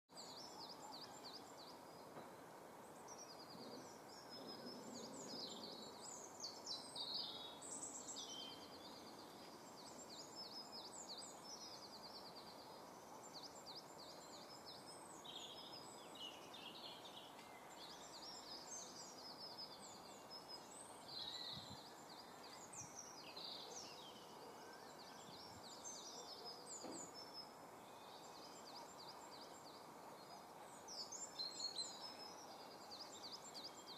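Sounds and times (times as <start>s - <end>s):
outdoor background hiss: 0.1s - 33.9s
songbirds chirping: 0.1s - 33.9s.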